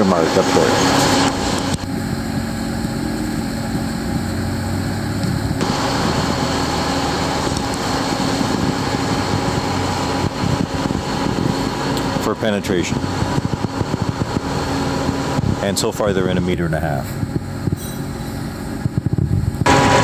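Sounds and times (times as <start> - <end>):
heavy machine engine droning: 0.0 - 20.0.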